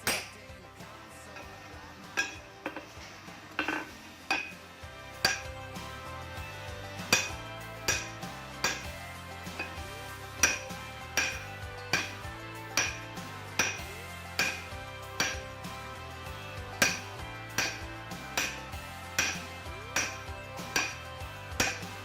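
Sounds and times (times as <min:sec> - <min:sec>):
hammer striking steel on anvil: 0:00.0 - 0:00.4, 0:01.3 - 0:15.5, 0:16.7 - 0:22.0.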